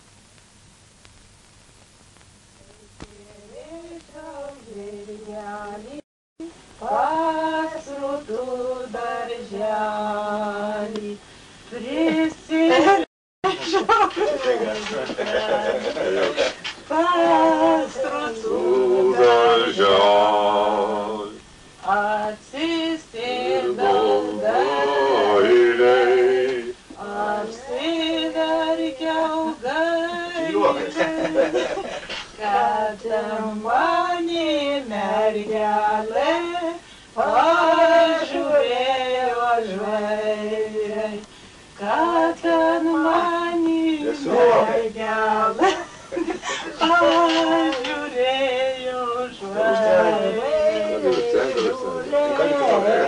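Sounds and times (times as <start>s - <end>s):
voices singing without instruments: 3.0s - 53.0s.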